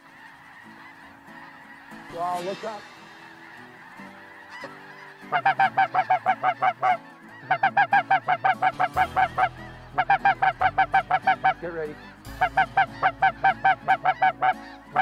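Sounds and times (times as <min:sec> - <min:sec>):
goose honking: 0:00.0 - 0:15.0
murmur of large flock: 0:00.0 - 0:15.0.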